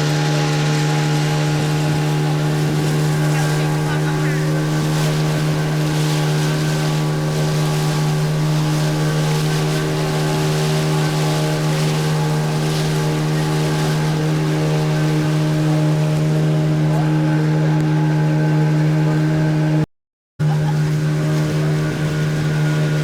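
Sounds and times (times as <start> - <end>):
wind and water rushing: 0.0 - 19.8, 20.4 - 23.0
motorboat engine running: 0.0 - 23.0.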